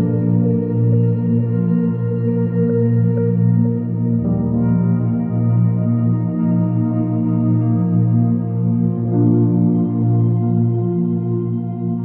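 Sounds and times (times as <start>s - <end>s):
ambient music with held tones: 0.0s - 12.0s.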